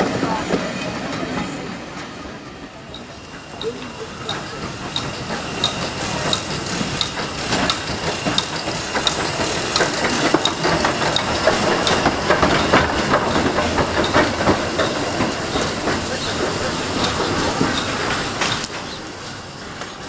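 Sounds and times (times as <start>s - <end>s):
steam locomotive running slowly: 0.0s - 20.0s
steam hissing: 2.3s - 20.0s
wheels clanking: 2.8s - 20.0s.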